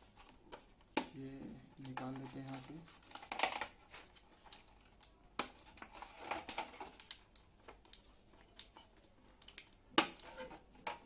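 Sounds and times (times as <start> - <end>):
plastic packaging clicks and rustles: 0.0 - 11.0.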